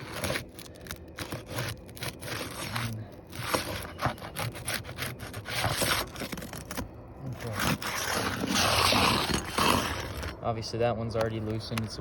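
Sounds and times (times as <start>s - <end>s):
tool scraping under roof shingles: 0.0s - 10.4s.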